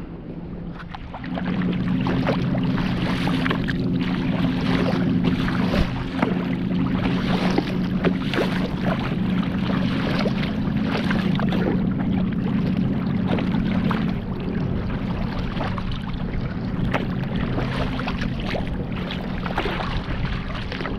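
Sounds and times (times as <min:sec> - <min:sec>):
steady low hum: 0:00.0 - 0:20.9
wind noise on microphone: 0:00.0 - 0:20.9
waves slapping against kayak hull: 0:00.7 - 0:20.9.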